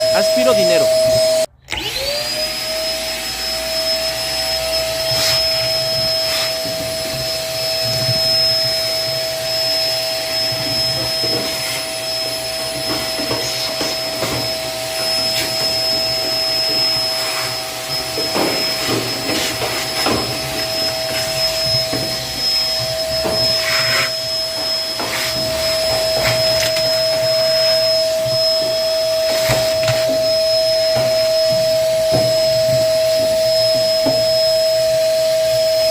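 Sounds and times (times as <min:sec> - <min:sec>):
vacuum cleaner whine: 0:00.0 - 0:35.9.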